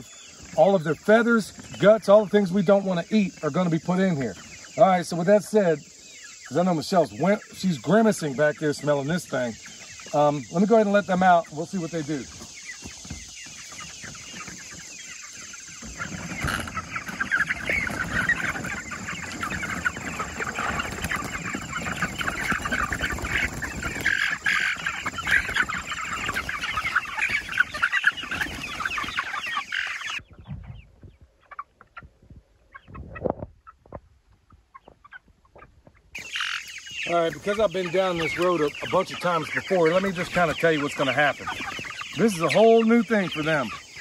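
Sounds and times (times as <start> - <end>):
chickens clucking and cheeping: 0.0 - 44.0.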